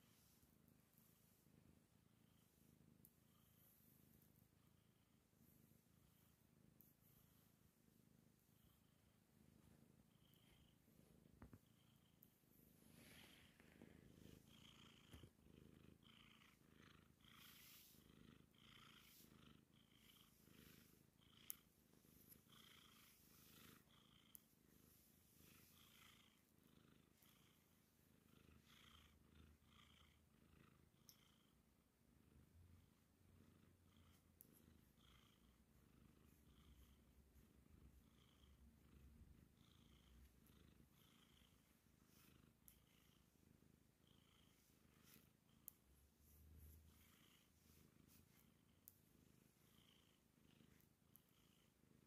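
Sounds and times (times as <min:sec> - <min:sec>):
cat purring: 0:00.0 - 0:52.0.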